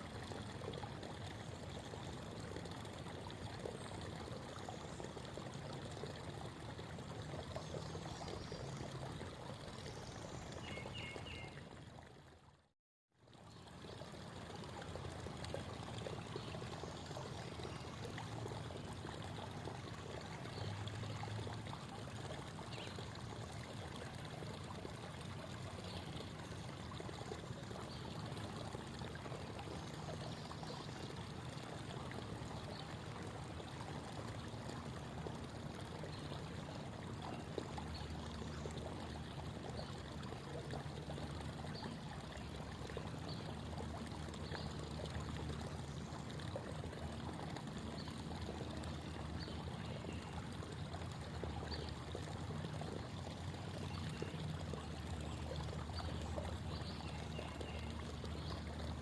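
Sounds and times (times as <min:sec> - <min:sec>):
creek water babbling over stones: 0:00.0 - 0:12.5, 0:13.2 - 0:59.0.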